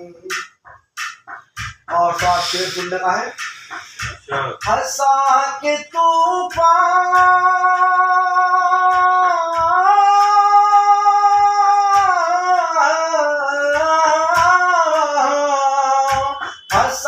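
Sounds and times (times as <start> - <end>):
soft low drum beats: 0.0 - 17.0
person singing wordless notes: 1.9 - 17.0.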